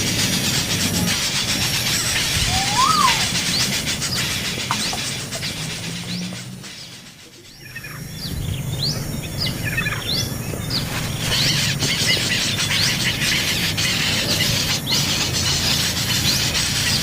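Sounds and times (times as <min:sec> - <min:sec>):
nestling birds chirping: 0:00.0 - 0:17.0.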